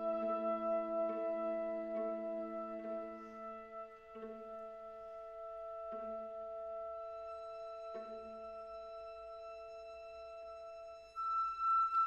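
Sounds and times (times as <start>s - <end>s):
held music notes: 0.0s - 12.0s.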